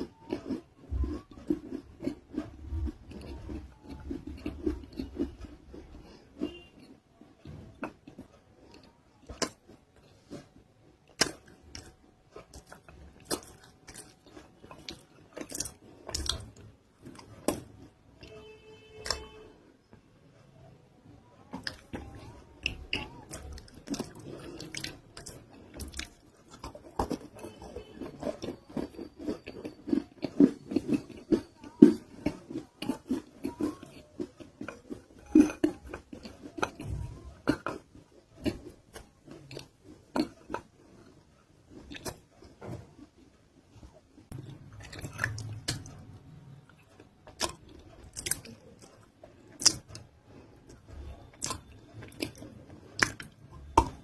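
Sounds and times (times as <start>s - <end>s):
crisp crunching and chewing: 0.0s - 19.5s, 21.3s - 54.0s.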